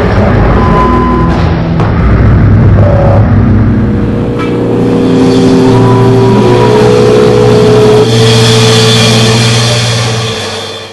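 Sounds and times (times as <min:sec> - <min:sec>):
distorted electric guitars droning: 0:00.0 - 0:10.9
guitar feedback whine: 0:00.4 - 0:10.9.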